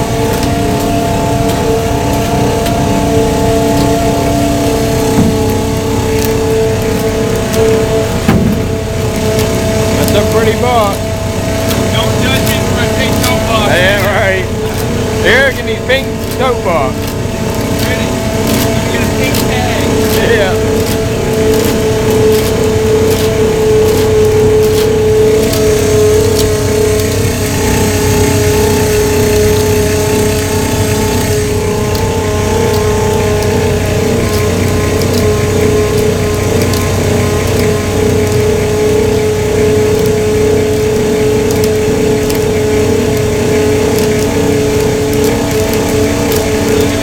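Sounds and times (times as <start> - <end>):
boat engine drone: 0.0 - 47.0
hydraulic gear whine: 0.0 - 47.0.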